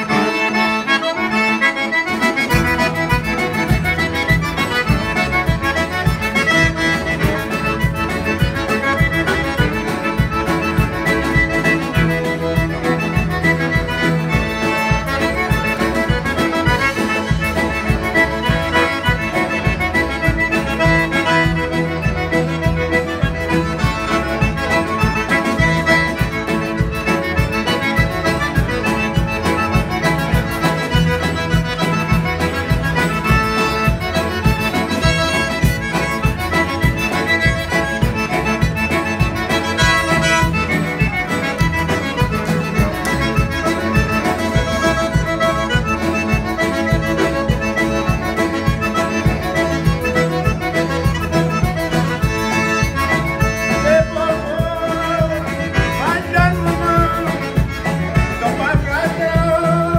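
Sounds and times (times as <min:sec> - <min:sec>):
band playing dance music: 0:00.0 - 0:59.9
button accordion: 0:00.0 - 0:59.9
fiddles: 0:00.0 - 0:59.9.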